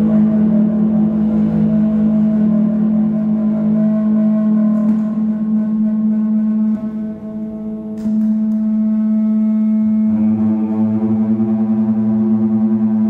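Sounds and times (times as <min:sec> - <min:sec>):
electronic drone: 0:00.0 - 0:13.0.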